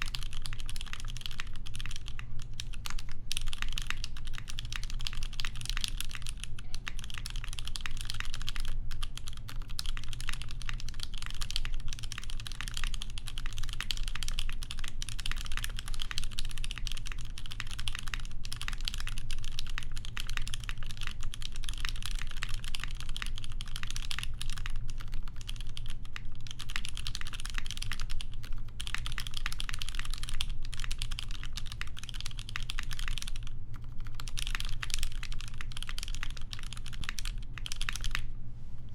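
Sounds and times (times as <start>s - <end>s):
mechanical keyboard typing: 0.0s - 38.2s.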